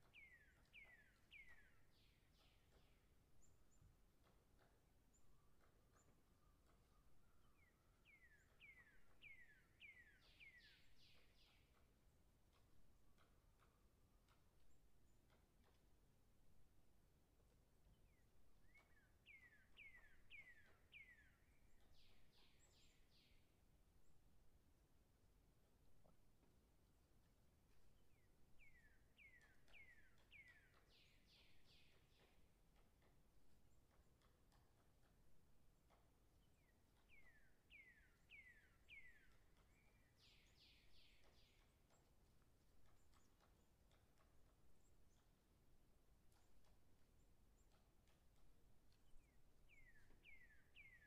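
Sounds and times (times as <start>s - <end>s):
distant woodpecker calling: 0.0s - 51.0s.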